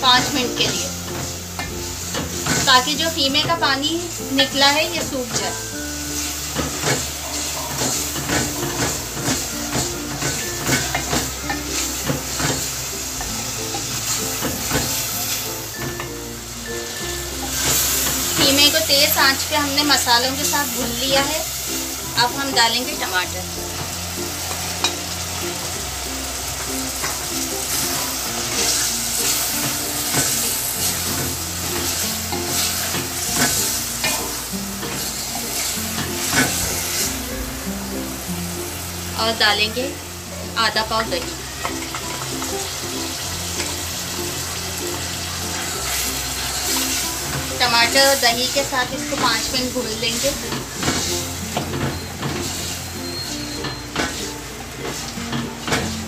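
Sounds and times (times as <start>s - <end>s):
minced meat sizzling in a pot: 0.0s - 56.0s.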